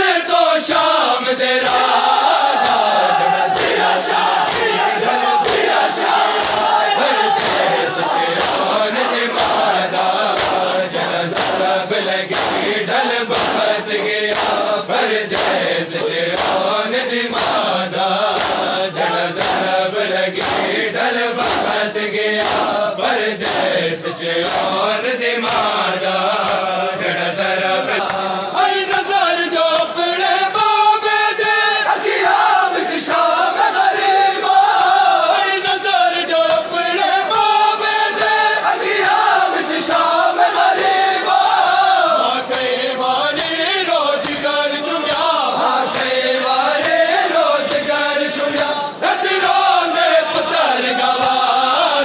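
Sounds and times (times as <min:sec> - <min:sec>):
men chanting together: 0:00.0 - 0:52.0
rhythmic chest beating claps: 0:00.0 - 0:52.0.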